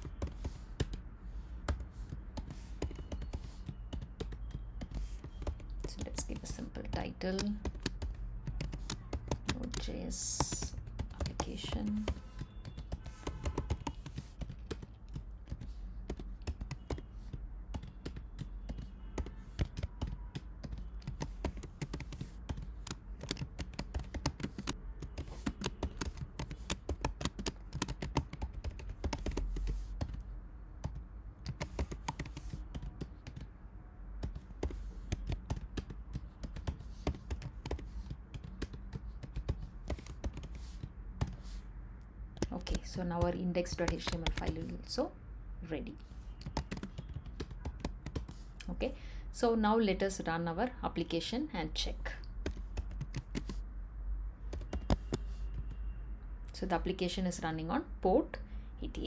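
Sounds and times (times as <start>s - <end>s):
computer keyboard typing: 0.0s - 33.6s, 34.2s - 41.6s, 42.4s - 44.9s, 46.0s - 48.7s, 52.2s - 53.6s, 54.5s - 56.0s.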